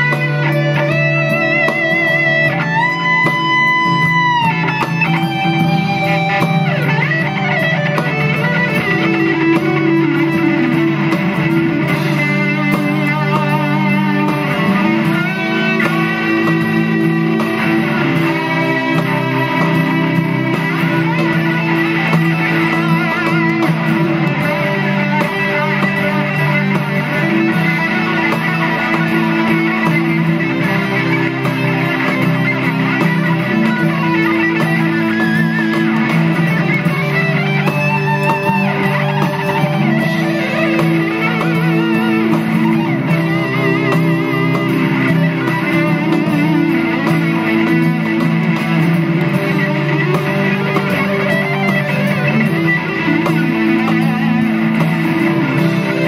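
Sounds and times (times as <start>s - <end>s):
overdriven electric guitar lead: 0.0s - 56.0s.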